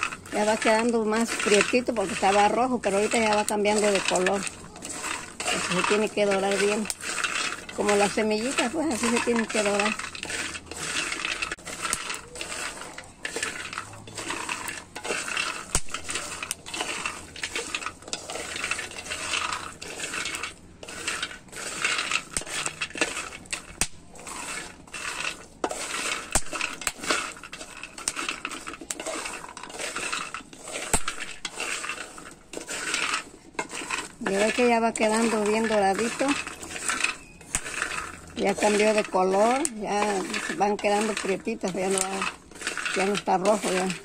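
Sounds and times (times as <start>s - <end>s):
beans rattling in a pan: 0.0s - 44.0s.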